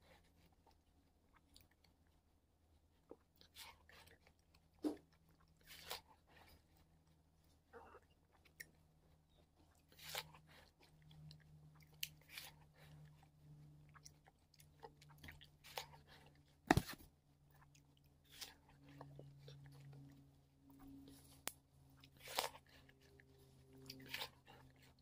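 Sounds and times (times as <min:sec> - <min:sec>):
chewing and crunching frozen fruit: 0:00.0 - 0:25.0.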